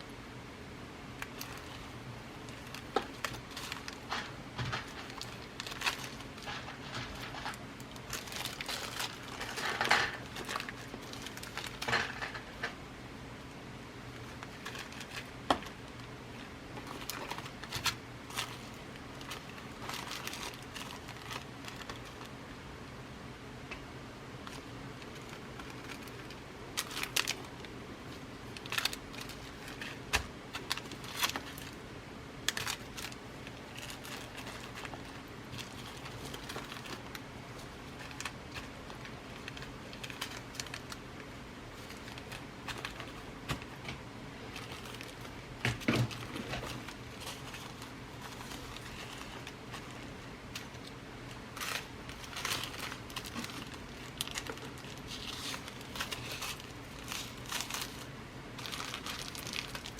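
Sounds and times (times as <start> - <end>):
low steady hum: 0.0 - 59.9
beads clicking and rustling: 1.2 - 12.8, 14.2 - 22.4, 24.4 - 31.8, 32.4 - 59.9.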